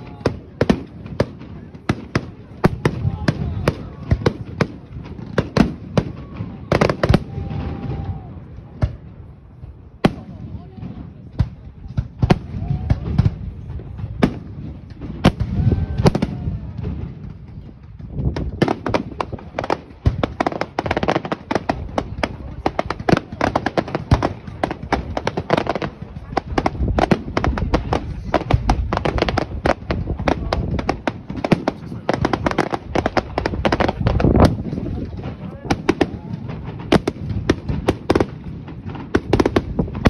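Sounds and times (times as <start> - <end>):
rapid crackling of fireworks: 0.0 - 40.0.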